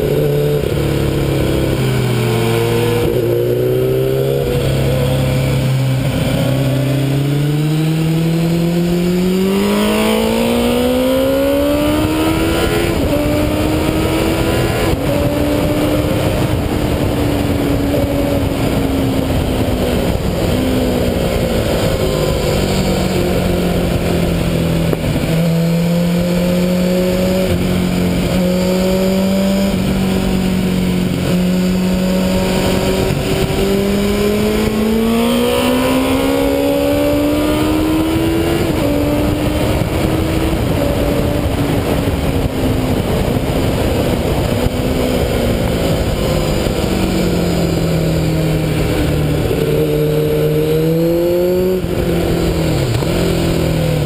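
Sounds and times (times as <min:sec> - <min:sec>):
motorcycle engine under load: 0:00.0 - 0:54.0
wind noise: 0:00.0 - 0:54.0.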